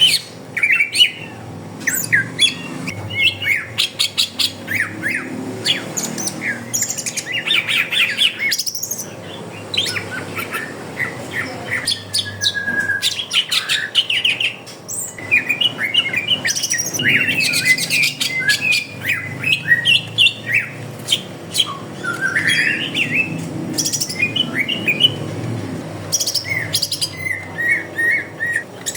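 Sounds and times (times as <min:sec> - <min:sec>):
caged songbirds chirping and squawking: 0:00.0 - 0:28.9.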